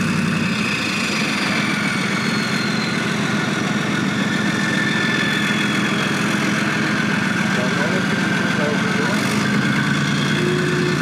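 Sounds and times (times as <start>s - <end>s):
diesel engine idling: 0.0s - 11.0s
high whine: 0.0s - 11.0s.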